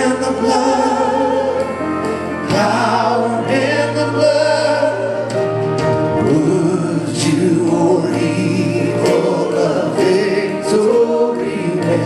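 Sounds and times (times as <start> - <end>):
congregation singing a hymn: 0.0 - 12.0
instrumental accompaniment: 0.0 - 12.0.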